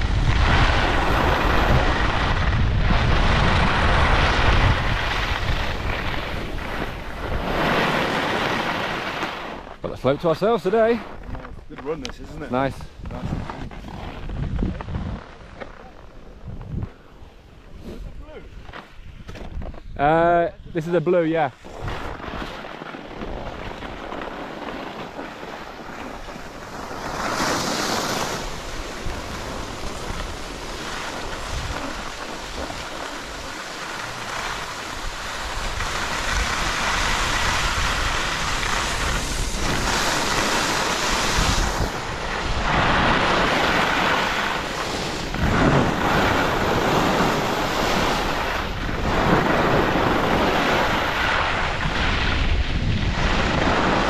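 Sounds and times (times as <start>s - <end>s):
skis hissing and scraping on snow: 0.0s - 54.0s
wind rushing over microphone: 0.0s - 54.0s.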